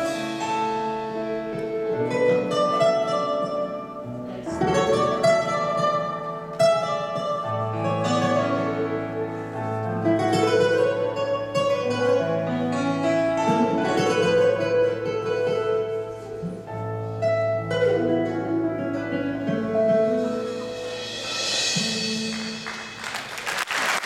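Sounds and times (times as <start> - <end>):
plucked strings: 0.0 - 23.0.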